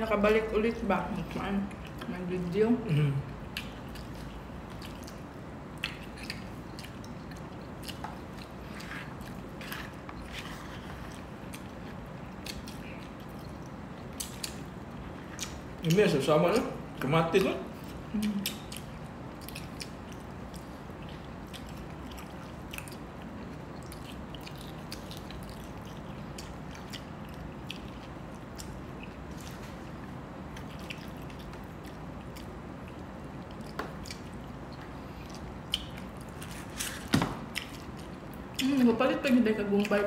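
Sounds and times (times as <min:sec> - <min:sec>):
low background hum: 0:00.0 - 0:40.0
people chewing: 0:01.1 - 0:39.0.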